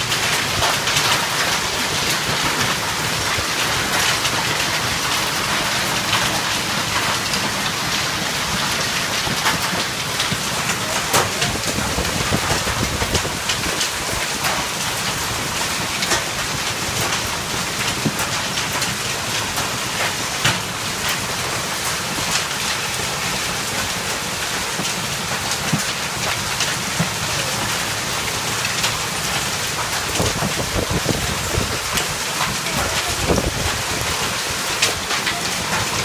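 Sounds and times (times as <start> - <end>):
hail and rain hiss: 0.0 - 36.0
hailstones ticking: 0.0 - 36.0.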